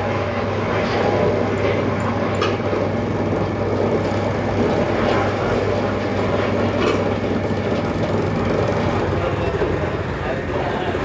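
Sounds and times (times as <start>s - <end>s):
wooden oil press rumbling: 0.0s - 11.0s.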